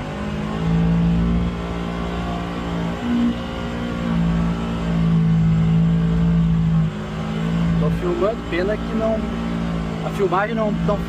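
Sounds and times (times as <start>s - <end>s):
vehicle engine droning under load: 0.0s - 11.0s.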